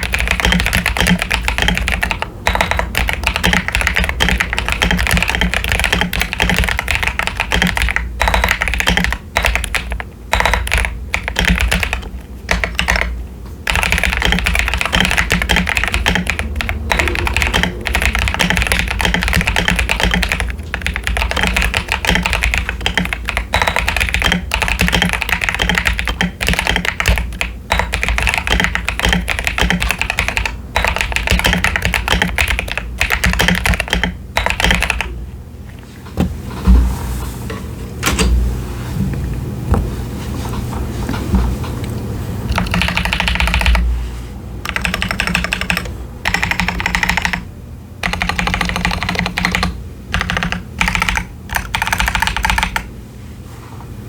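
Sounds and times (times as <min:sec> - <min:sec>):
typing on mechanical keyboard: 0:00.0 - 0:35.1, 0:42.5 - 0:43.8, 0:44.6 - 0:52.9.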